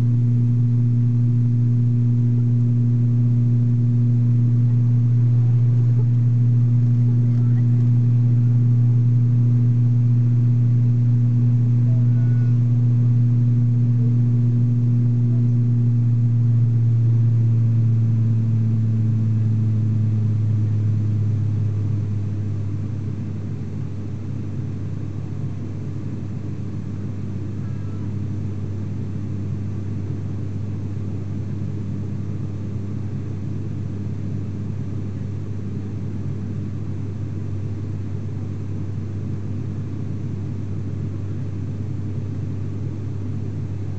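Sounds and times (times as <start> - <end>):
turboprop cabin drone: 0.0 - 43.9.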